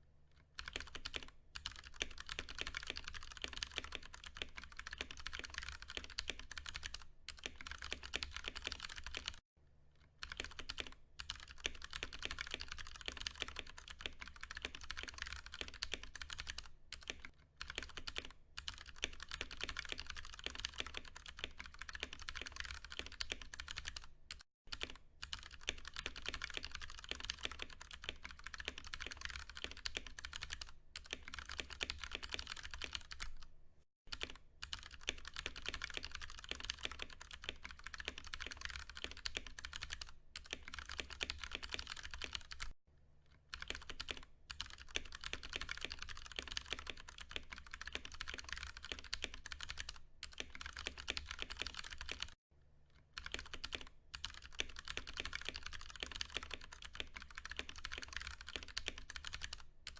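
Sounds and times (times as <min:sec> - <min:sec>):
fast typing on mechanical keyboard: 0:00.6 - 0:09.4, 0:10.2 - 0:33.5, 0:34.1 - 0:42.8, 0:43.5 - 0:52.4, 0:53.2 - 0:59.9.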